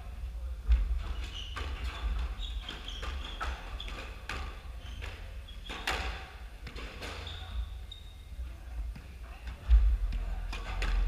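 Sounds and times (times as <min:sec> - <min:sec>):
sneakers squeaking: 0:00.7 - 0:11.0.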